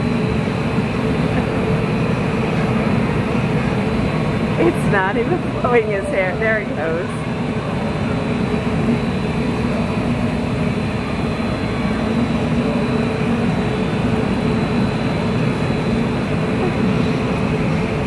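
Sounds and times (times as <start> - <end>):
low fan hum: 0.0 - 18.0.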